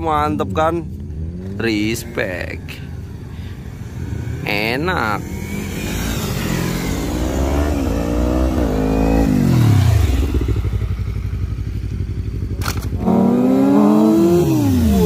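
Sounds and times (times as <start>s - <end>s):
motorcycle engine revving: 0.6s - 15.0s.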